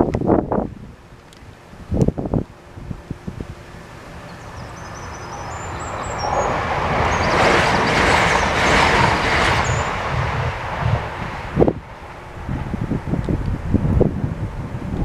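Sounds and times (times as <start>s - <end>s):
train passing at speed: 2.5s - 15.0s.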